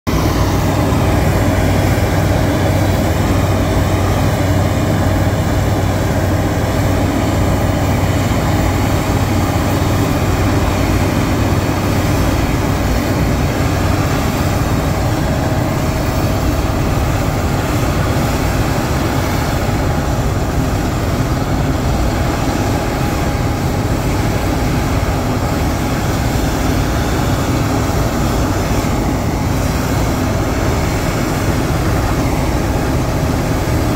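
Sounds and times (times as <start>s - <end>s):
combine harvester droning: 0.1s - 33.9s.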